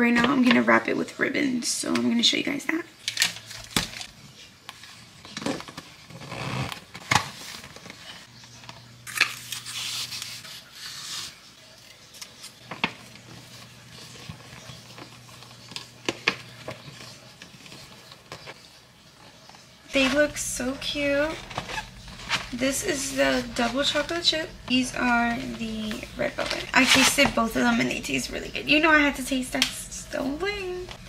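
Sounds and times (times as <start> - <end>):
rustling of gift wrapping: 3.0 - 29.4.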